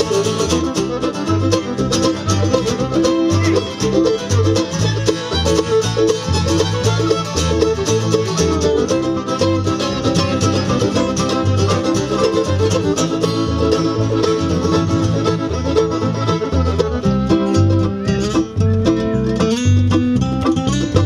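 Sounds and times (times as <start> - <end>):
bluegrass band playing: 0.0 - 21.0.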